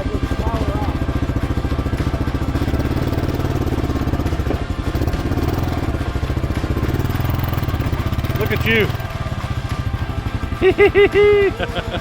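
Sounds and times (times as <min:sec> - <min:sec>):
motorcycle engine running slowly: 0:00.0 - 0:12.0.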